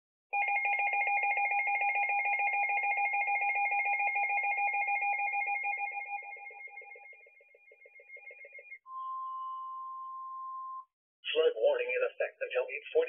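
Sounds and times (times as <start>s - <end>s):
warbling electronic alarm: 0.4s - 10.9s.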